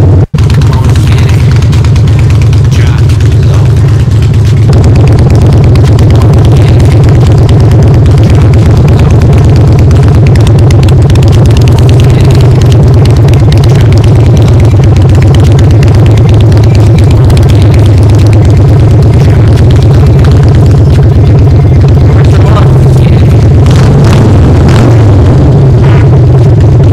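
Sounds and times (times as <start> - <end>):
motorcycle engine running loud: 0.0 - 26.9.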